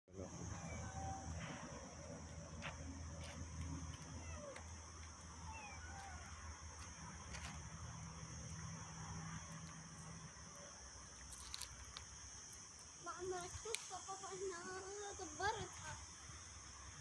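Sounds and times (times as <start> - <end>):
high-pitched insect buzz: 0.4 - 17.0.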